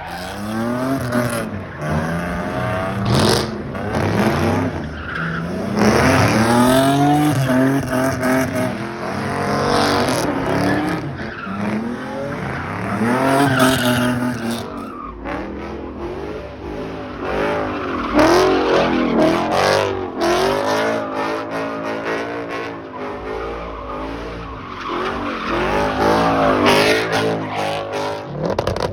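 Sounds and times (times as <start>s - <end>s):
car engine revving: 0.0s - 28.9s
tires squealing: 0.0s - 28.9s.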